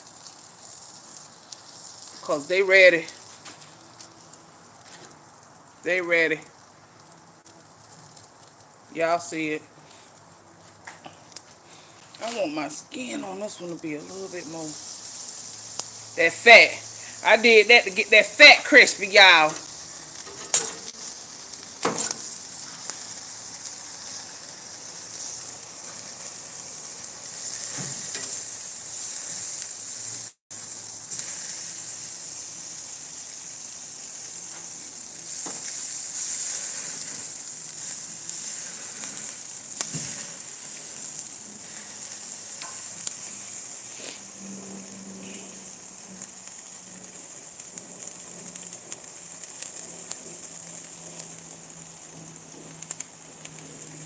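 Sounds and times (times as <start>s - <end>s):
fat popping on coals: 0.0s - 54.0s
meat sizzling on grill: 0.0s - 54.0s.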